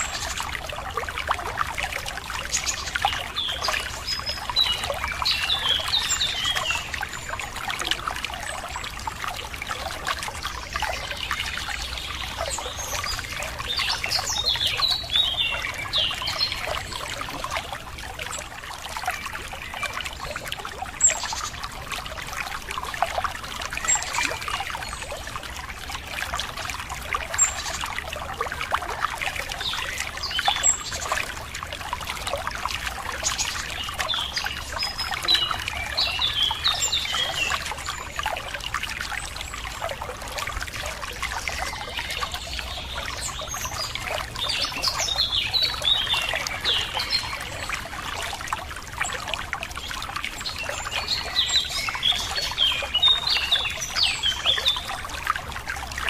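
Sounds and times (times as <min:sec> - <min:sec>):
songbirds chirping: 0:00.0 - 0:56.0
water trickling and splashing: 0:00.0 - 0:56.0.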